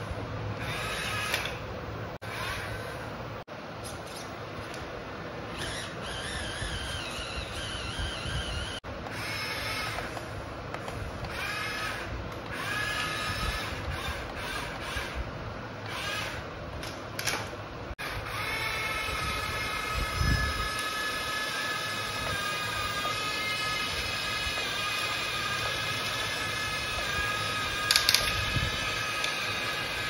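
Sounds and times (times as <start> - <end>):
toy gear motors whining: 0.6 - 1.6, 2.2 - 3.1, 5.5 - 30.0.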